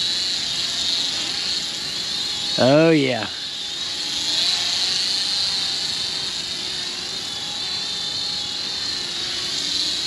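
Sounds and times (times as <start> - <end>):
drone propellers whining: 0.0 - 10.0.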